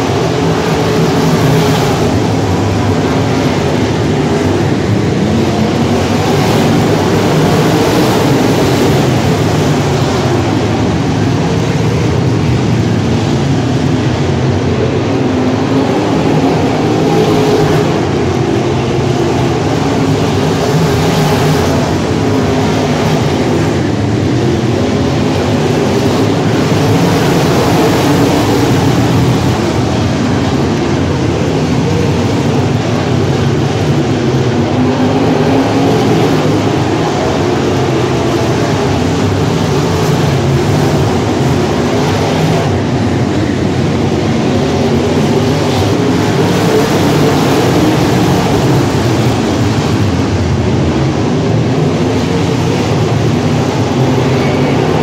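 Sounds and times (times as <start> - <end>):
race car engines roaring: 0.0 - 55.0.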